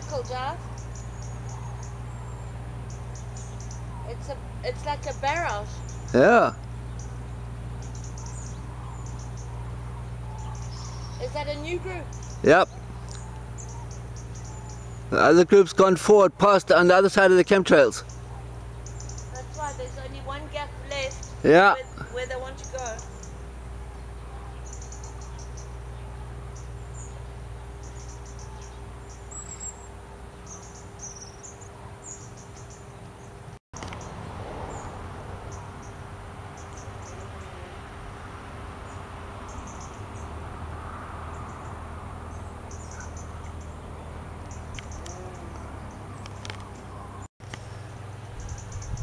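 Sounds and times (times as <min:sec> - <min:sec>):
insects trilling: 0:00.0 - 0:49.0.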